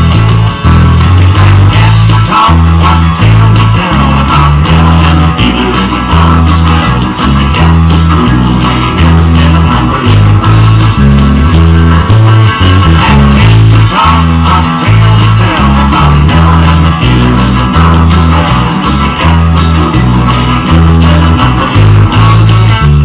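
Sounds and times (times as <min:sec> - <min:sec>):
electric bass guitar line: 0:00.0 - 0:23.0
strummed guitar: 0:00.0 - 0:23.0.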